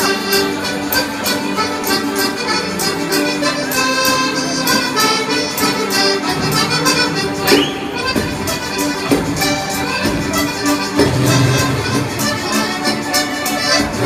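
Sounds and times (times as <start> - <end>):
button accordion folk dance tune: 0.0 - 14.0.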